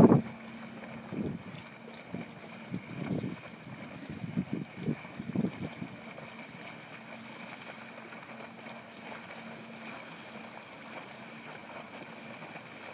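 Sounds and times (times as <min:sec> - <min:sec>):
ferry engines humming: 0:00.0 - 0:12.9.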